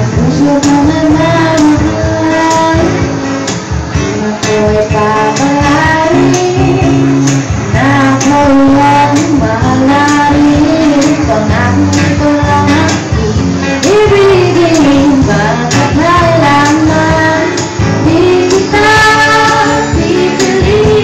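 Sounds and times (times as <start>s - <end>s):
acoustic guitar bossa nova: 0.0s - 21.0s.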